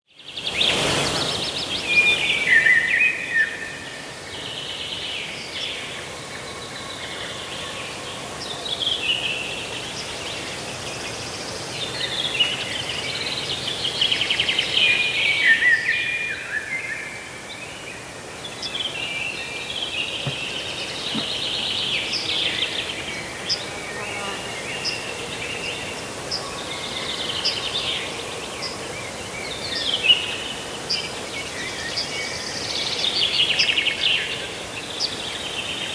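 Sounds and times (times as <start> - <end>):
outdoor background hiss: 0.1 - 35.9.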